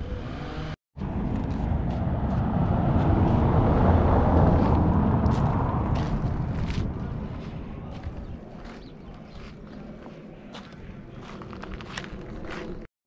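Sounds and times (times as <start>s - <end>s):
motor vehicle passing: 0.0s - 10.5s.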